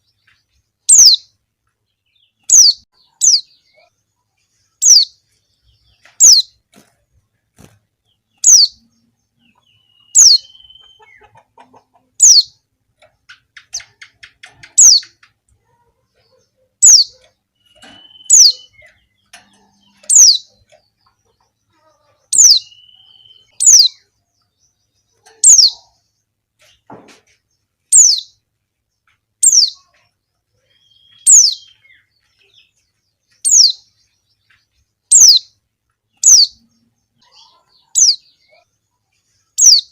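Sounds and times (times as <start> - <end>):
faint rapid bird chatter: 0.0 - 39.9.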